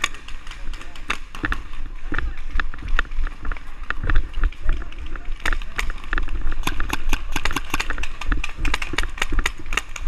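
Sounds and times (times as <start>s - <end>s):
paintball markers firing: 0.0s - 10.0s.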